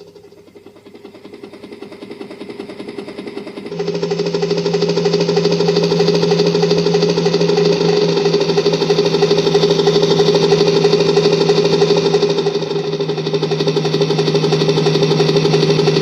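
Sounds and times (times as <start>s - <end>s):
helicopter rotor chopping: 0.0s - 16.0s.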